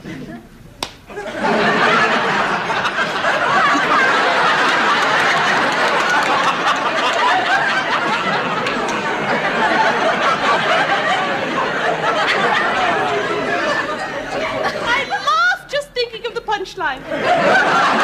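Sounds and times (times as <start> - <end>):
studio audience laughing: 1.1 - 15.6, 17.0 - 18.0.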